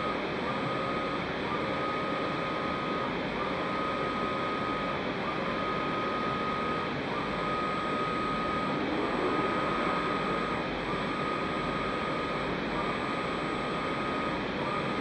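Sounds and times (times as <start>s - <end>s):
press machine noise: 0.0s - 15.0s
repeating machine tone: 0.0s - 15.0s.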